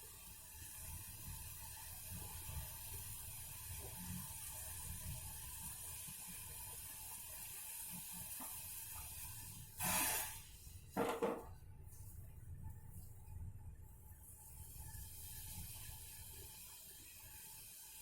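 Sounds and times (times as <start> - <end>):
pot boiling on gas burner: 0.0 - 18.0.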